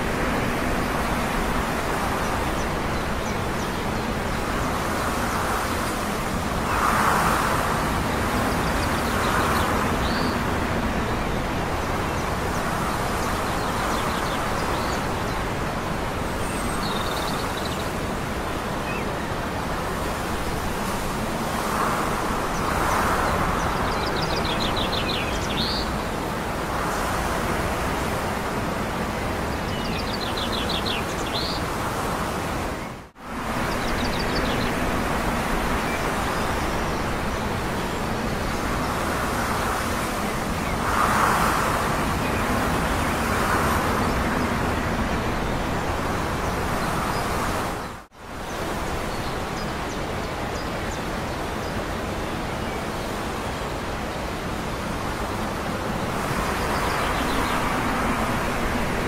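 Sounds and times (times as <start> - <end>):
distant traffic hum: 0.0 - 59.0.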